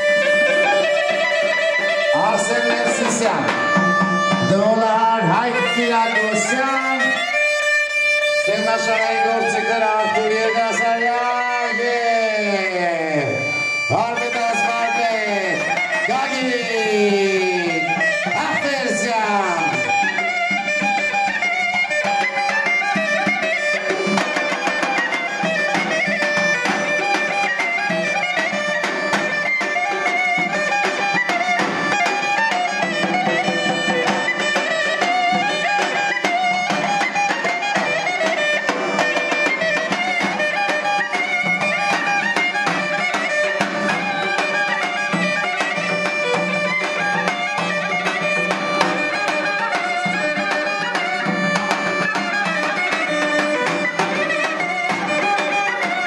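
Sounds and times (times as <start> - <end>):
dhol drums beating: 0.0 - 56.0
keyboard accompaniment: 0.0 - 56.0
zurna melody: 0.0 - 56.0.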